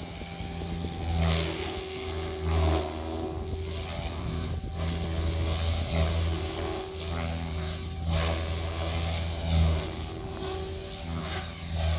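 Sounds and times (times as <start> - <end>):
motor and gear hum: 0.0 - 11.9
rotor blades whooshing: 0.0 - 11.9.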